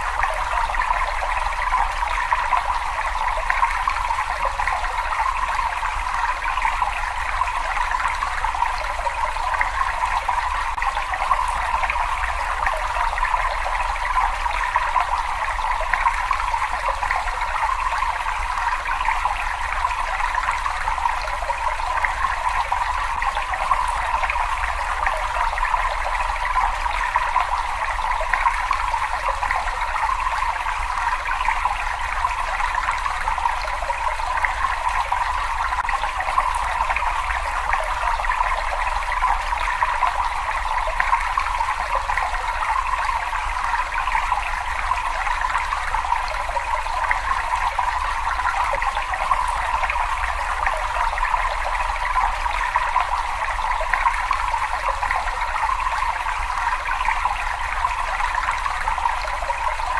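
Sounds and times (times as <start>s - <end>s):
water trickling in a cave: 0.0s - 59.9s.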